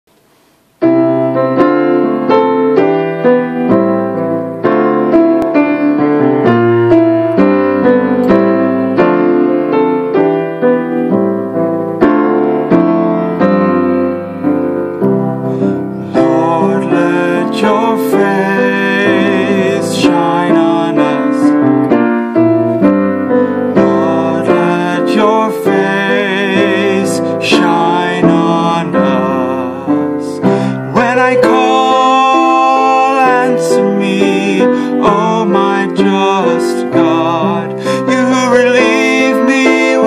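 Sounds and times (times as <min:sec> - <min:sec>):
piano playing chords: 0:00.1 - 0:40.0.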